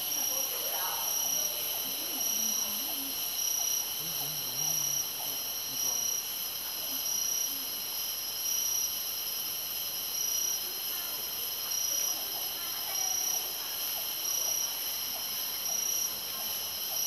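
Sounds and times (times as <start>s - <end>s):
insect chorus drones: 0.0s - 17.0s.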